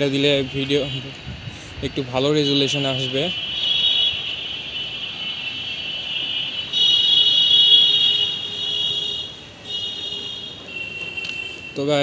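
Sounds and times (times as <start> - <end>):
shrill steady buzz: 1.9 - 11.8.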